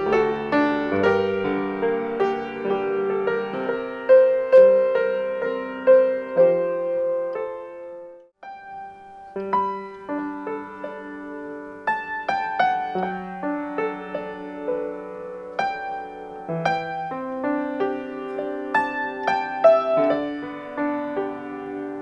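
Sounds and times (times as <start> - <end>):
solo piano piece: 0.0 - 22.0.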